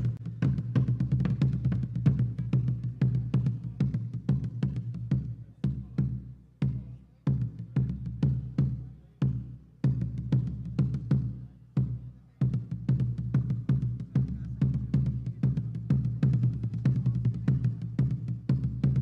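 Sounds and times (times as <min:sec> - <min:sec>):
deep booming bass drum: 0:00.0 - 0:19.0
drums playing a rhythm: 0:00.0 - 0:19.0.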